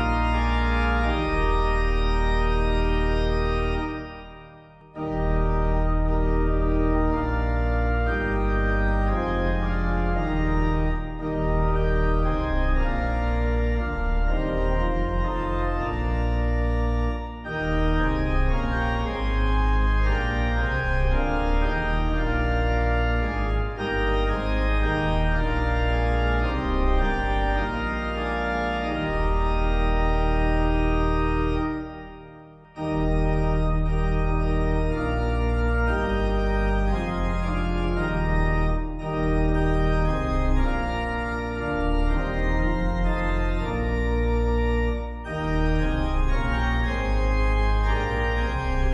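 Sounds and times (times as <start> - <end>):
organ playing a hymn: 0.0 - 48.9.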